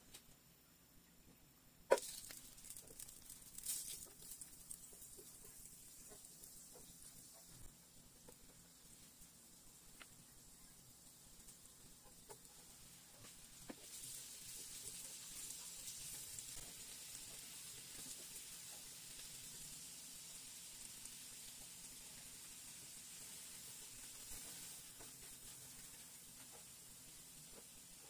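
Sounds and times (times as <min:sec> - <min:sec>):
garlic sizzling in a frying pan: 0:01.9 - 0:28.0.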